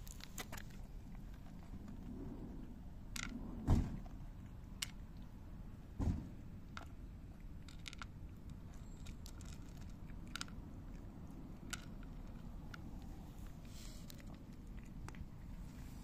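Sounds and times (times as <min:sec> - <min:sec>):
cats crunching dry kibble: 0:00.0 - 0:05.7, 0:06.5 - 0:16.0
low background rumble: 0:00.0 - 0:16.0.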